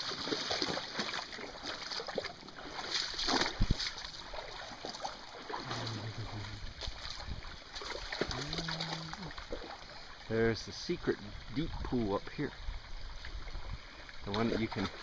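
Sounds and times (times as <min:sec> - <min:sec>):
footsteps wading in a creek: 0:00.0 - 0:15.0.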